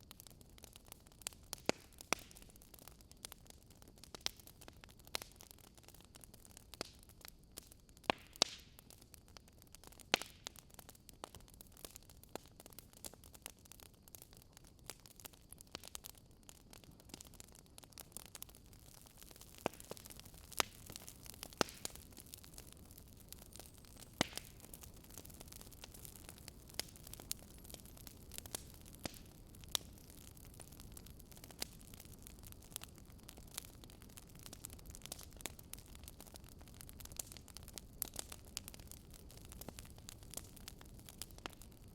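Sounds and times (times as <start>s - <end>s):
fire pops and snaps: 0.0s - 41.9s
low steady hiss: 0.0s - 41.9s.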